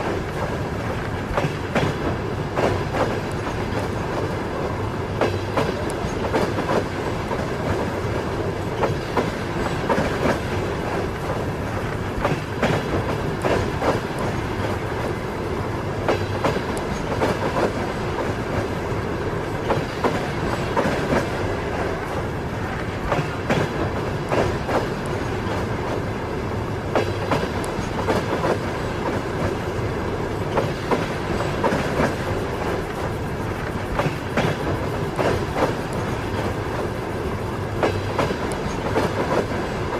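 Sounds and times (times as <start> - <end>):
train rumble: 0.0 - 39.9
train wheels clattering over joints: 5.2 - 15.4, 16.0 - 26.1, 26.9 - 39.9.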